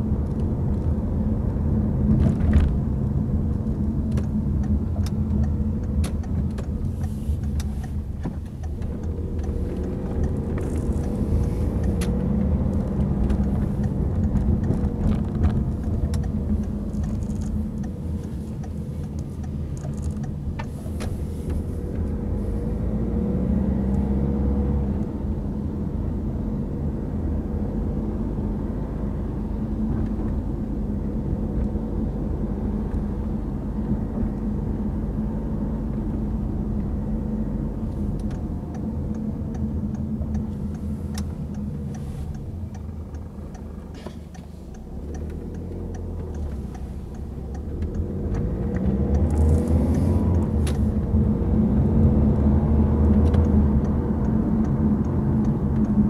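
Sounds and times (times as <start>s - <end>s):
car engine from inside cabin: 0.0s - 56.0s.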